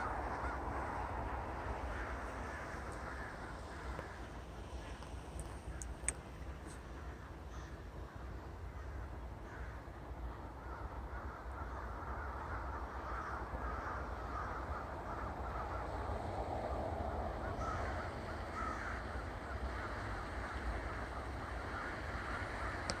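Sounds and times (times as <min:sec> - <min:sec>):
flock of crows cawing: 0:00.0 - 0:23.0.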